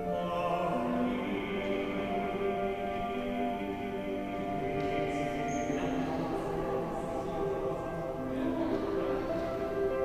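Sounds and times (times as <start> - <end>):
church music held chords: 0.0 - 10.0.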